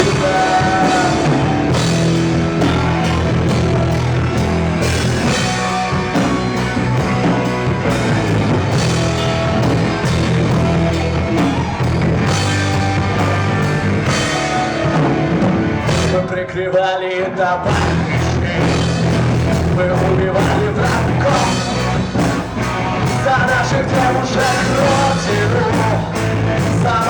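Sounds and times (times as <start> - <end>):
rock band playing instrumental: 0.0 - 16.3, 17.7 - 27.0.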